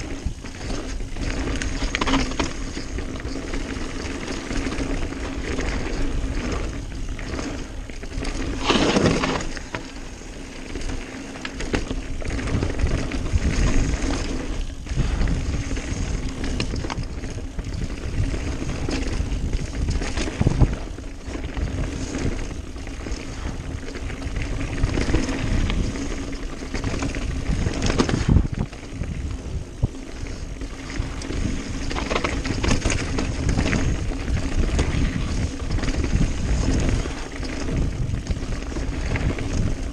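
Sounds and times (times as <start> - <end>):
wind buffeting microphone: 0.0 - 11.0, 11.6 - 39.9
bike bumps and rattles: 0.0 - 39.9
bike tyres rumbling on dirt: 0.0 - 39.9.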